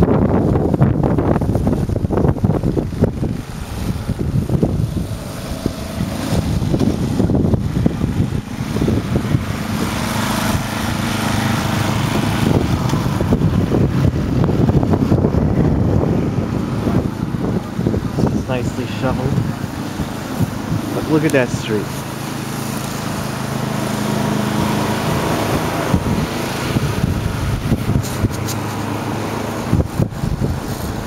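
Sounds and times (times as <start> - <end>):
engine running: 0.0 - 31.0
wind buffeting microphone: 0.0 - 31.0.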